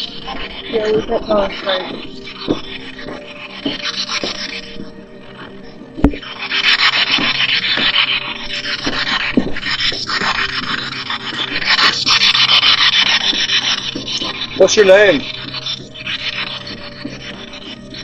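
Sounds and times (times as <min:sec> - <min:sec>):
branches rubbing against microphone: 0:00.0 - 0:18.0.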